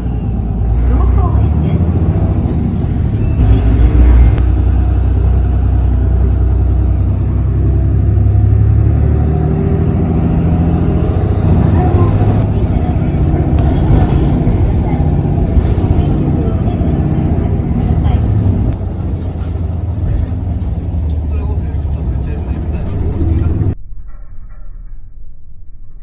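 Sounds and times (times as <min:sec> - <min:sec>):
road noise: 0:00.0 - 0:23.8
bus engine drone: 0:00.0 - 0:26.0.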